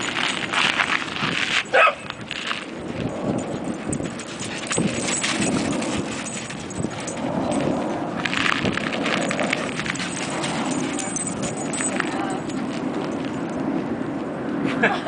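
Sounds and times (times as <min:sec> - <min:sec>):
dogs' paws pattering and scrabbling: 0:00.0 - 0:14.0.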